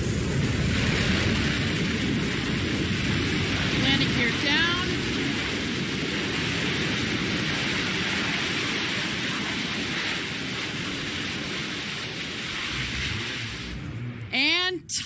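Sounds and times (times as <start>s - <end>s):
rocket engine roaring: 0.0s - 15.0s.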